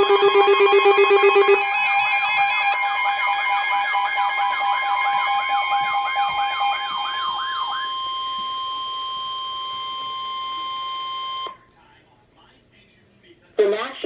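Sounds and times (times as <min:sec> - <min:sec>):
electronic siren wail: 0:00.0 - 0:11.6
steady high-pitched alert tones: 0:00.0 - 0:11.6.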